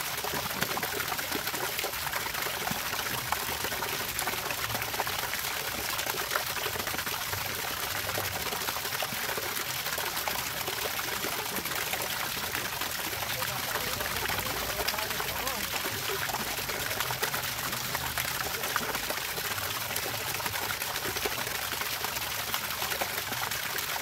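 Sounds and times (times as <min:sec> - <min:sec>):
water trickling and pouring: 0:00.0 - 0:24.0.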